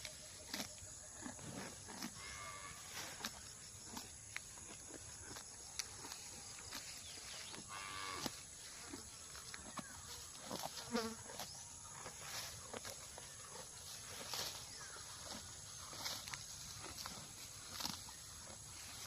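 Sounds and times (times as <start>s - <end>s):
cow tearing and chewing grass: 0.0s - 19.0s.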